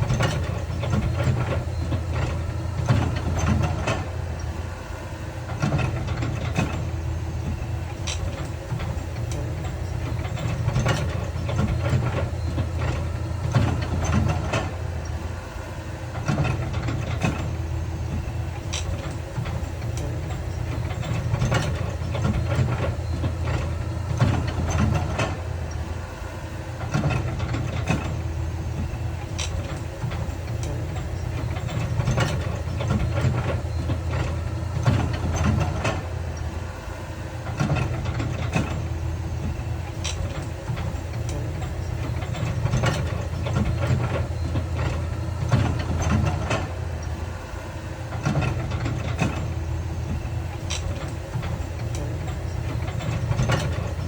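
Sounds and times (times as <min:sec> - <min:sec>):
diesel machinery droning: 0:00.0 - 0:54.0.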